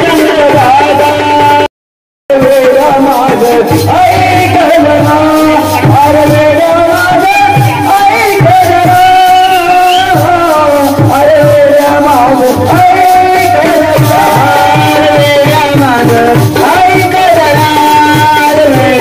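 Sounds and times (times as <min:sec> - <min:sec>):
amplified lead voice singing: 0:00.0 - 0:01.7, 0:02.3 - 0:19.0
men singing folk song: 0:02.3 - 0:19.0.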